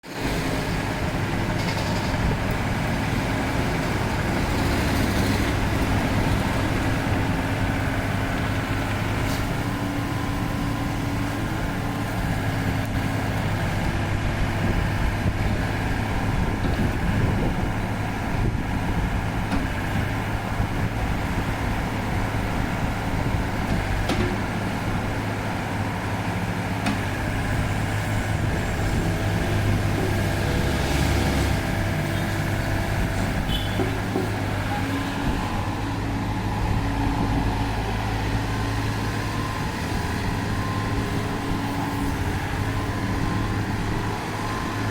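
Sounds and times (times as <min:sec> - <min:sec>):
diesel excavator engine running: 0:00.0 - 0:44.9.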